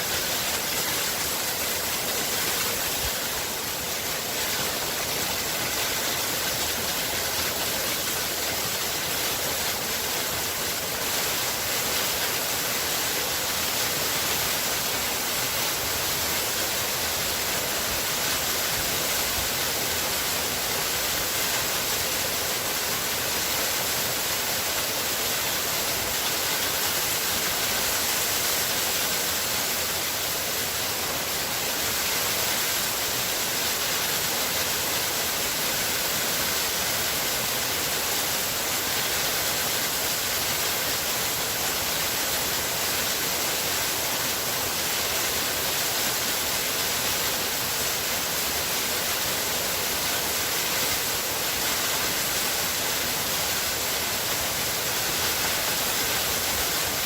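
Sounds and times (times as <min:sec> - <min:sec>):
waterfall: 0:00.0 - 0:57.0.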